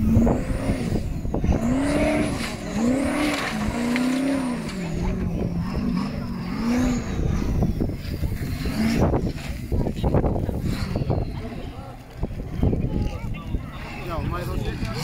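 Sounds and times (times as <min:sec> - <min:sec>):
race car engine revving: 0:00.0 - 0:12.8.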